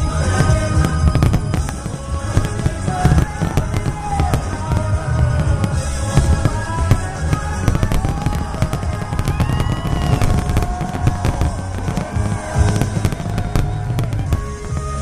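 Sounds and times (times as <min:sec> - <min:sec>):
fireworks bangs and crackles: 0:00.0 - 0:15.0
loud music: 0:00.0 - 0:15.0.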